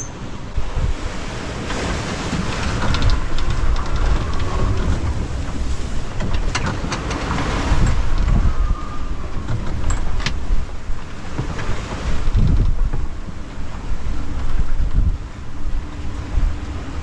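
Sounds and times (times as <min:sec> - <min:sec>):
rough seas rushing: 0:00.0 - 0:17.0
strong wind buffeting microphone: 0:00.2 - 0:17.0.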